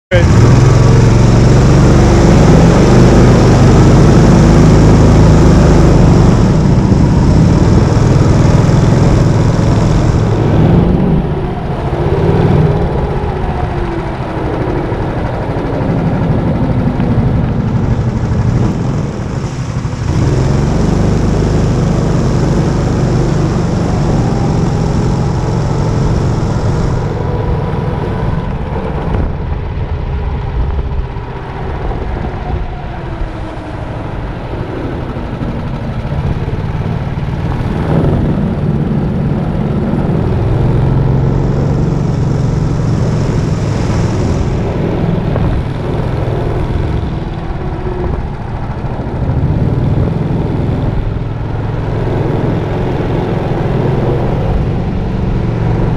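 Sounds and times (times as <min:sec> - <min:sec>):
go-kart engine revving: 0:00.1 - 0:55.9.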